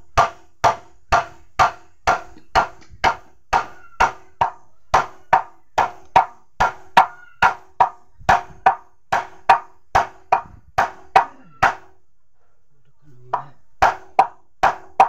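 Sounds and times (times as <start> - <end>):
hammer striking wooden handle: 0.1 - 11.9, 13.8 - 15.0.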